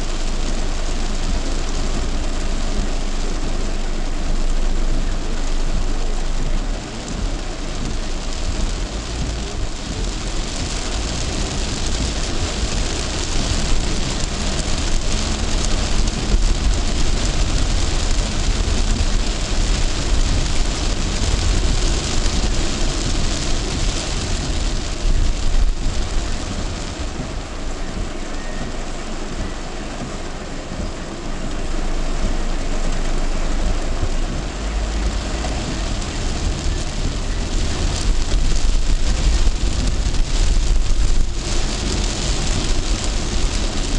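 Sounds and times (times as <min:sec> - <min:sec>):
car driving on wet road: 0:00.0 - 0:43.9
heavy rain on a car: 0:00.0 - 0:43.9.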